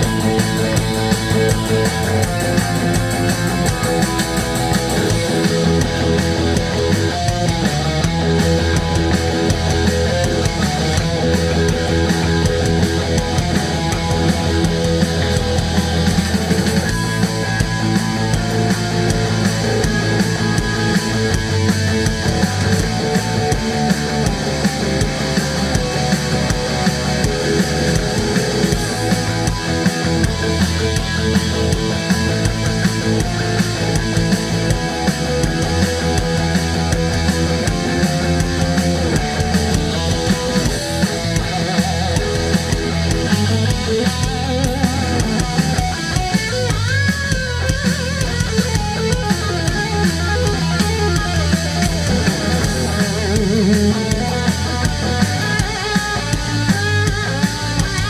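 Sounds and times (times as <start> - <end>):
bass guitar: 0.0 - 58.0
drum kit: 0.0 - 58.0
electric guitar lead: 0.0 - 58.0.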